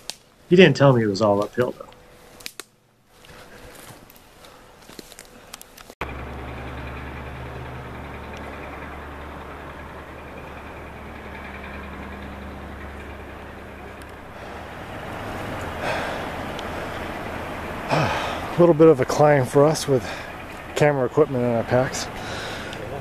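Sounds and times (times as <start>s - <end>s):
engine humming and rumbling: 3.3s - 23.0s.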